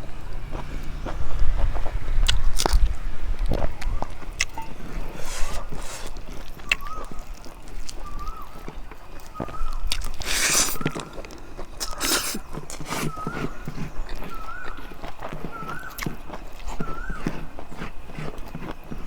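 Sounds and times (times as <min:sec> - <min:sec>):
person chewing food: 0:00.4 - 0:19.0
slurps or crunches: 0:01.1 - 0:19.0.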